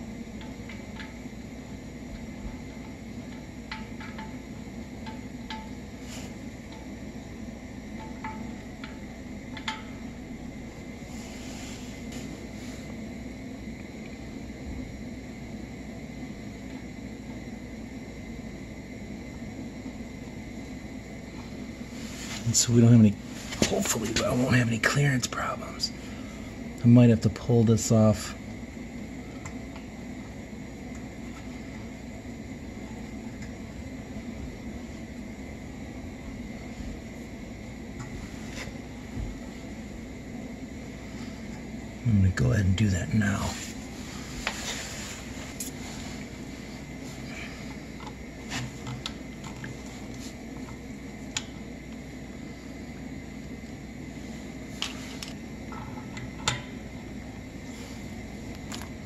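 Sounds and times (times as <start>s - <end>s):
machinery hum and hiss: 0.0s - 59.0s.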